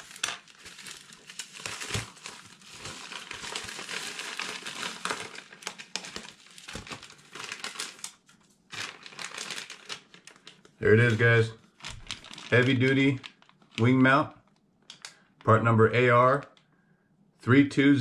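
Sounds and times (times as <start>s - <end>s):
small plastic bag rustling: 0.0s - 15.3s
plastic envelope crinkling: 0.0s - 15.6s.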